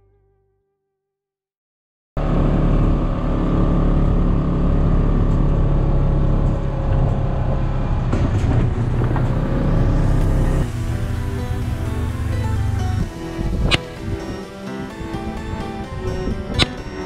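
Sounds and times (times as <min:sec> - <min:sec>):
vehicle engine running: 0:02.2 - 0:17.0.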